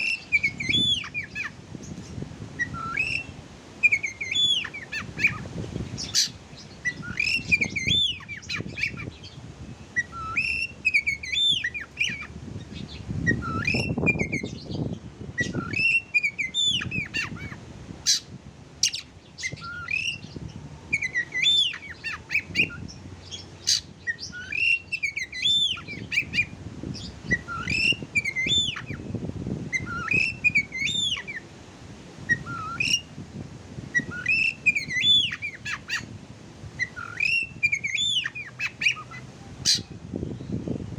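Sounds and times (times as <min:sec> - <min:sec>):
bird singing whistled phrases: 0:00.0 - 0:01.6, 0:02.6 - 0:05.4, 0:06.0 - 0:09.4, 0:10.0 - 0:12.3, 0:13.2 - 0:31.5, 0:32.3 - 0:33.1, 0:34.0 - 0:36.1, 0:36.8 - 0:40.6.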